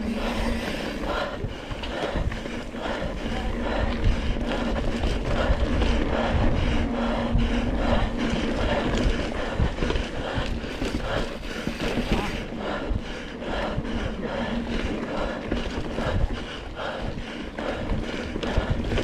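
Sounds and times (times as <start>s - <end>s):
person panting hard: 0.0s - 19.0s
wind rumble on microphone: 0.0s - 19.0s.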